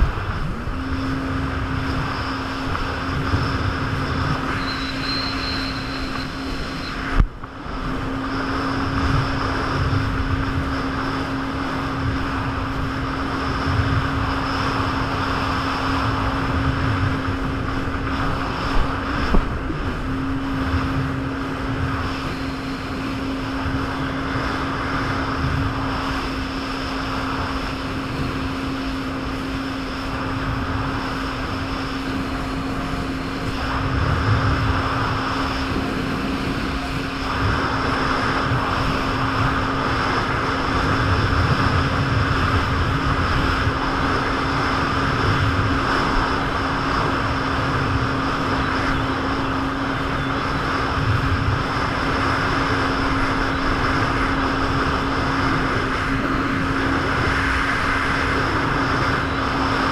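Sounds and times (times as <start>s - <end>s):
jet ski engine running: 0.0s - 59.9s
rushing wind: 0.0s - 59.9s
water noise: 0.0s - 59.9s.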